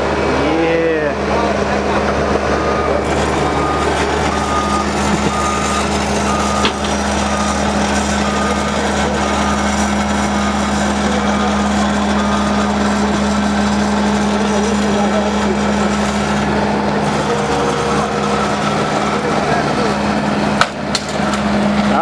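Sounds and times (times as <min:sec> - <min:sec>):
heavy truck engine running: 0:00.0 - 0:22.0
reversing alarm beeping: 0:01.3 - 0:22.0.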